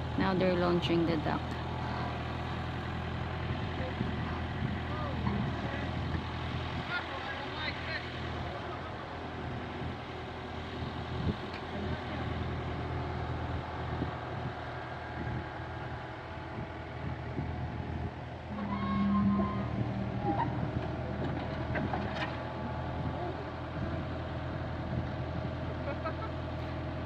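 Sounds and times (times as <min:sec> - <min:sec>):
loader engine running: 0:00.0 - 0:27.0.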